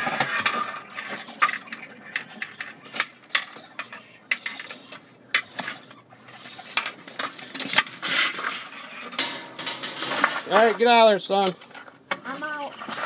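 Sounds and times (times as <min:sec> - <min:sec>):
scraping: 0:00.0 - 0:13.0.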